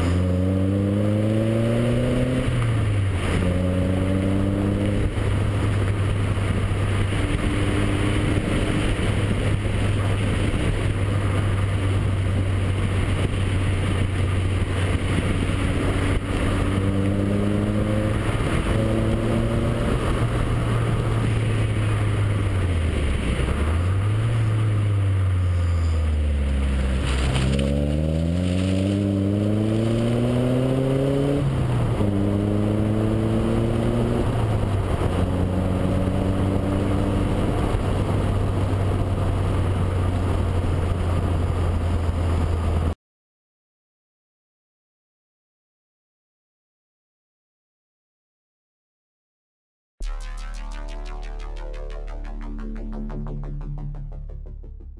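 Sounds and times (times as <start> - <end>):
car engine running: 0.0 - 42.9, 50.5 - 54.9
road and wind noise: 0.0 - 43.0, 50.0 - 54.9.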